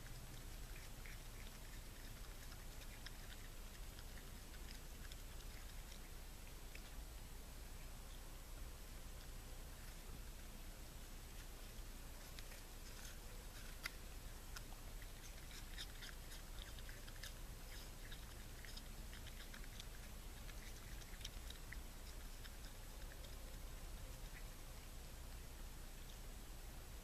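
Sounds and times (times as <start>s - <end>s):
raccoon chewing an apple: 0.0s - 27.0s.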